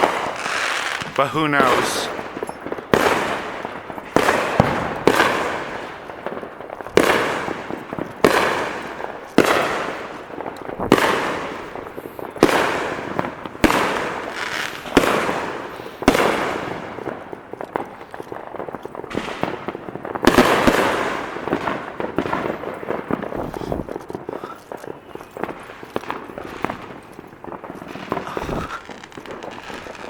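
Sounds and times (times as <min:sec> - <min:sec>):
fireworks bangs: 0:00.0 - 0:30.0
fireworks crackle: 0:00.0 - 0:30.0.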